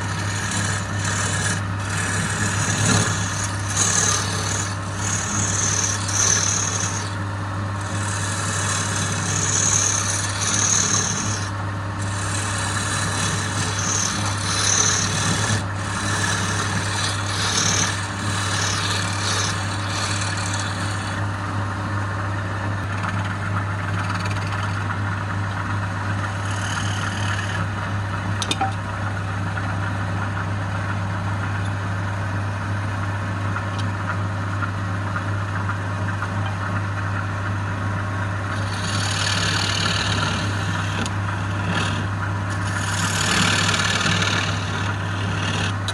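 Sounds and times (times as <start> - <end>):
tool scraping spinning wood: 0.0 - 29.8, 38.3 - 45.9
wood lathe motor hum: 0.0 - 32.2, 35.2 - 45.9.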